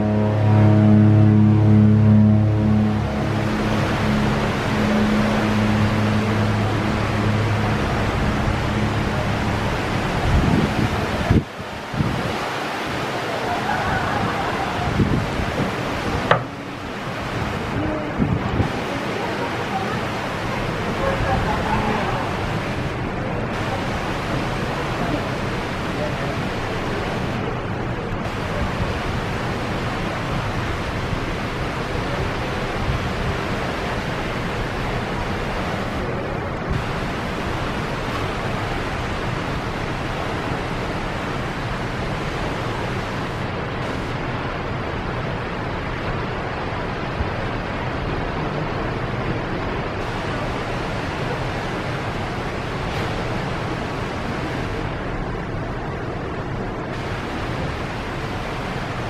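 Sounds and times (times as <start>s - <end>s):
waterfall crashing: 2.5s - 59.0s.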